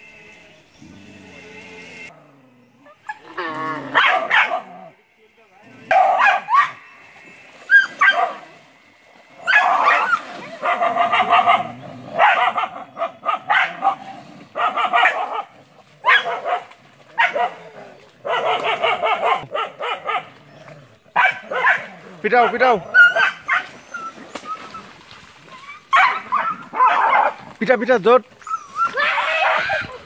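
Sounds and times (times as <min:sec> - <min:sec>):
dogs barking and snarling: 0:00.0 - 0:27.6, 0:28.3 - 0:30.0.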